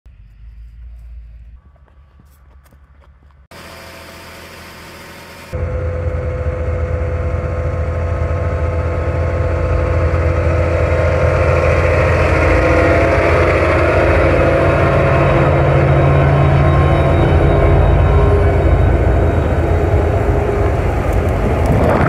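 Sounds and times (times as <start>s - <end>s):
tractor engine drone: 0.1s - 22.0s.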